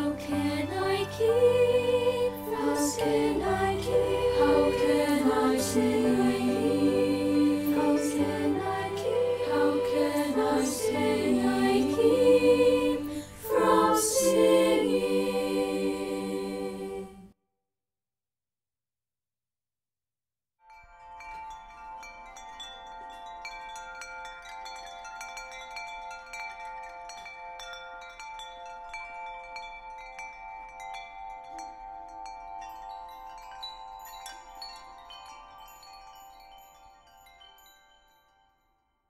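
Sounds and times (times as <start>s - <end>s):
chimes tinkling: 0.0s - 17.1s, 20.7s - 38.9s.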